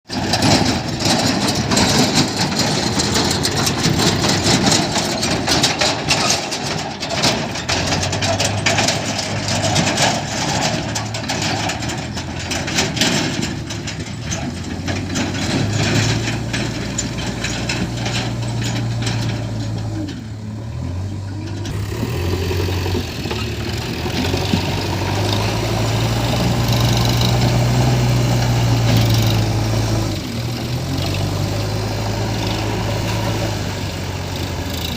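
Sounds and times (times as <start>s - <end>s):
clattering and knocking: 0.1s - 20.4s, 21.5s - 34.9s
diesel engines running: 0.1s - 34.9s.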